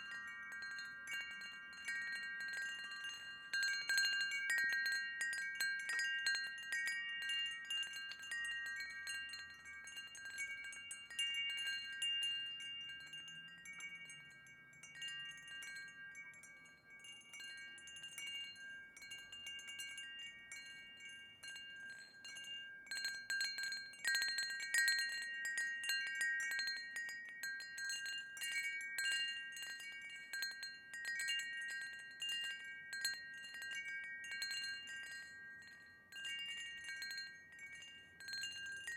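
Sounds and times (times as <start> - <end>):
wind chimes ringing: 0.0 - 38.9.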